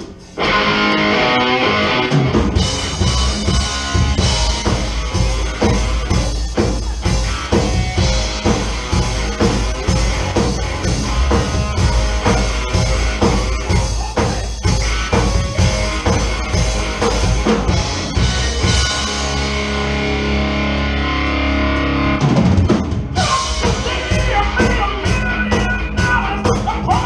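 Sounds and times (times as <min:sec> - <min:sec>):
drum kit driving beat: 0:00.0 - 0:20.3, 0:22.0 - 0:27.0
live rock band playing: 0:00.0 - 0:27.0
bass drum: 0:02.2 - 0:19.6, 0:22.1 - 0:27.0.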